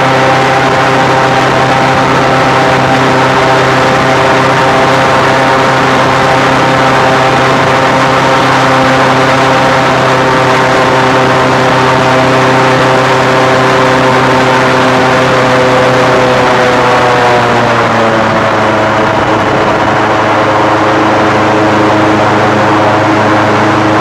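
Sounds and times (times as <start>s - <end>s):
airboat engine and propeller drone: 0.0s - 24.0s.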